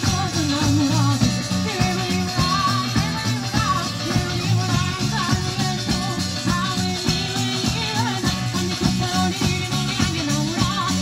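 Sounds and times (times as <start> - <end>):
live band playing folk song: 0.0 - 11.0.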